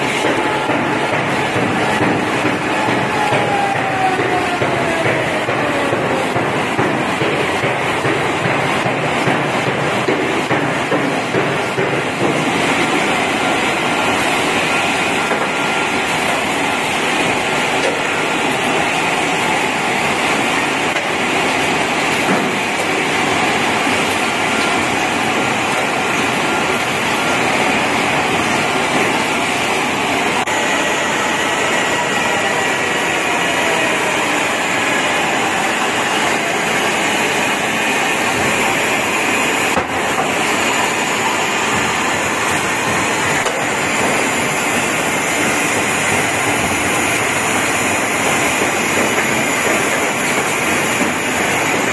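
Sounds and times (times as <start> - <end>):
machine running: 0.0 - 51.9.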